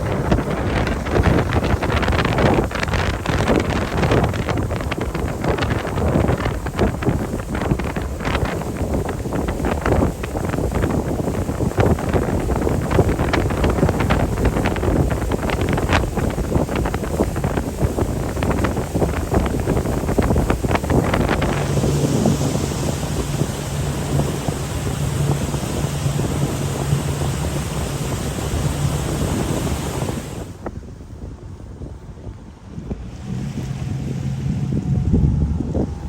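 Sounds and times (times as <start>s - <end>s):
sea water splashing: 0.0s - 30.7s
boat engine humming: 0.0s - 36.0s
wind buffeting microphone: 0.0s - 36.0s.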